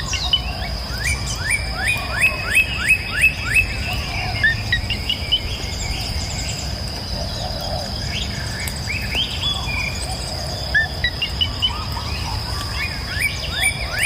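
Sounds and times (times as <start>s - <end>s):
birds chirping and singing: 0.0s - 14.0s.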